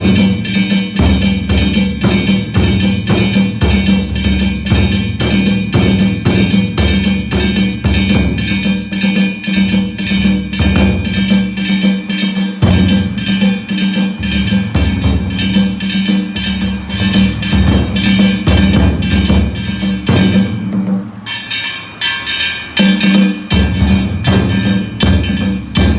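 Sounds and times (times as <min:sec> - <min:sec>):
metal hand gongs ringing: 0:00.0 - 0:25.9
taiko drums beating: 0:00.0 - 0:25.9.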